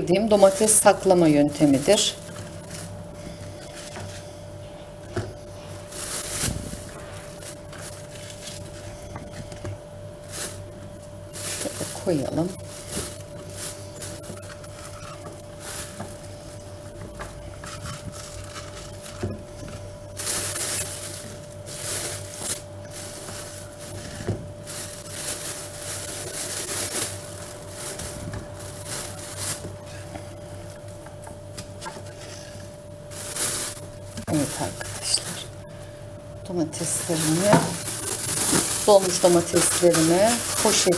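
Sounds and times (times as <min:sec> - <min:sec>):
plastic bag rustling: 0:00.0 - 0:35.6, 0:36.7 - 0:40.9.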